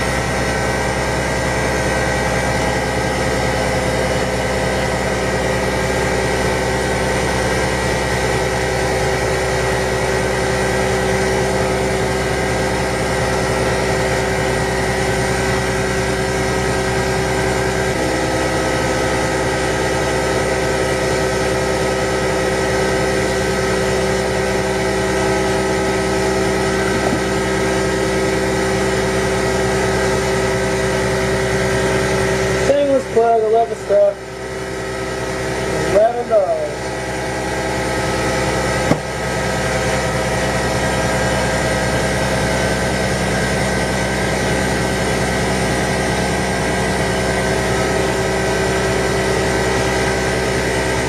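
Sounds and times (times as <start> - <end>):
lathe motor humming and whining: 0.0 - 51.0.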